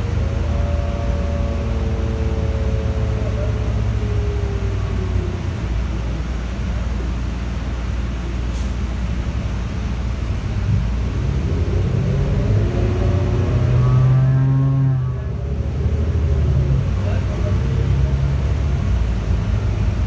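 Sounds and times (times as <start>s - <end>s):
bus engine rumble: 0.0s - 20.0s
road noise: 0.0s - 20.0s.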